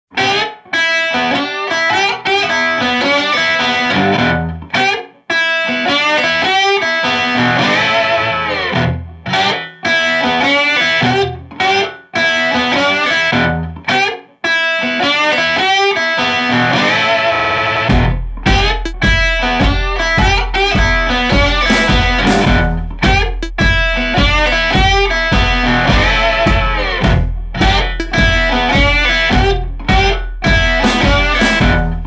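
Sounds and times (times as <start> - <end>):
plucked guitar music: 0.1 - 32.0.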